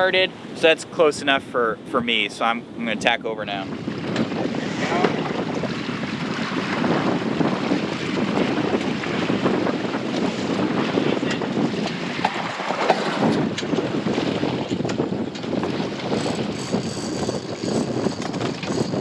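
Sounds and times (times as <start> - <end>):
sea water rushing along hull: 0.0 - 19.0
wind buffeting microphone: 0.0 - 19.0.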